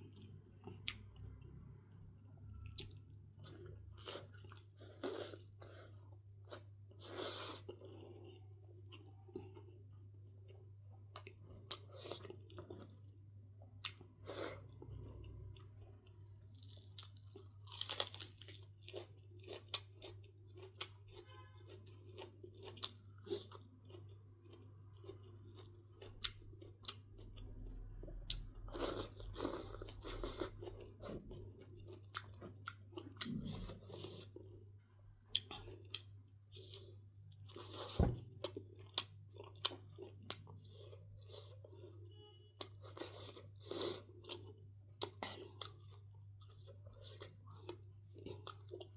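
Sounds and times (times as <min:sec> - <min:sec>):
person chewing and crunching food: 0:00.0 - 0:48.9.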